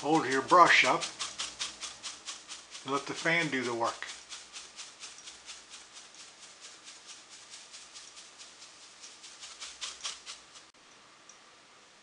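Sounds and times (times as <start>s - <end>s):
fan blades swishing on brush: 0.0s - 10.8s.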